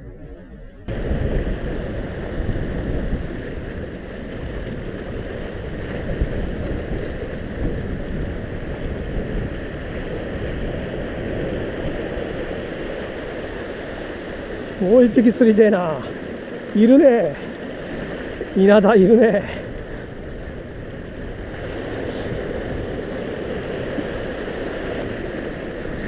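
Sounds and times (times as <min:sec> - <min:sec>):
wind buffeting microphone: 0:00.0 - 0:26.0
waves washing against rocks: 0:00.9 - 0:26.0.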